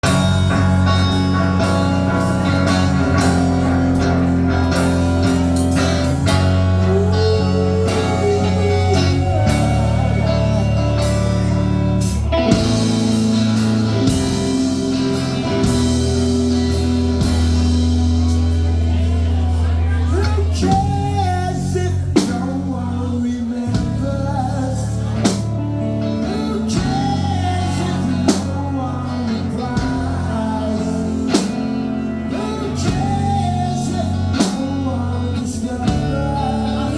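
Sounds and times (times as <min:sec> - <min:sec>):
person singing: 0:00.0 - 0:36.9
rock band playing: 0:00.0 - 0:36.9.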